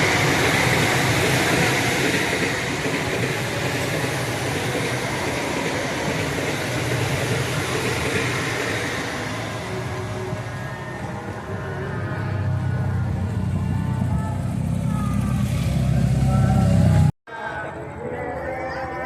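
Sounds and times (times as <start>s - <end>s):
train wheels rumbling on rails: 0.0s - 17.1s.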